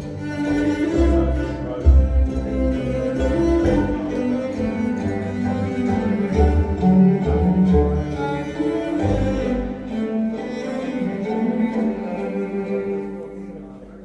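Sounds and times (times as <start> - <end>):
bowed strings over deep bass: 0.0 - 14.0.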